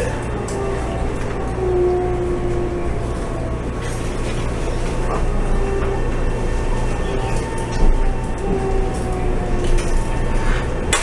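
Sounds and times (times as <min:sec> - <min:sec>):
train cabin low hum: 0:00.0 - 0:11.0.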